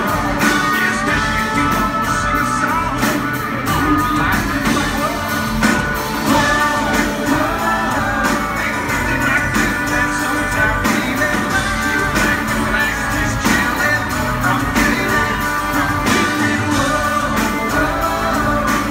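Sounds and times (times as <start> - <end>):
live country-rock band: 0.0 - 18.9
man singing: 0.0 - 18.9.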